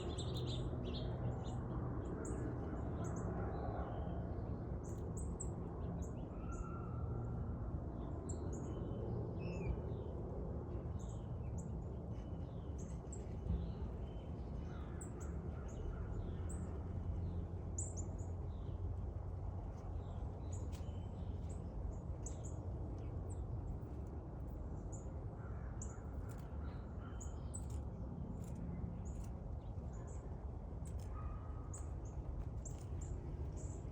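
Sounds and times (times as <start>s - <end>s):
low background rumble: 5.7s - 33.9s.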